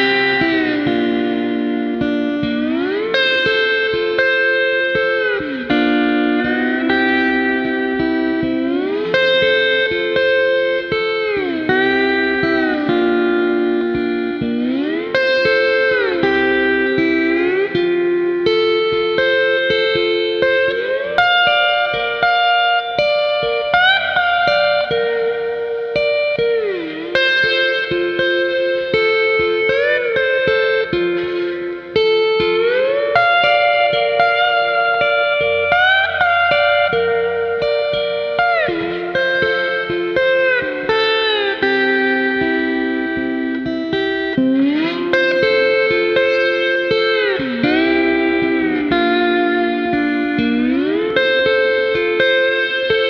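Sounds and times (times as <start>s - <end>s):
slide guitar music: 0.0s - 53.0s.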